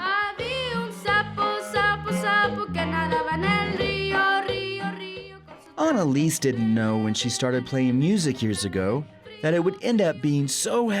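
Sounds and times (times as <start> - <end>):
accordion music: 0.1 - 10.3.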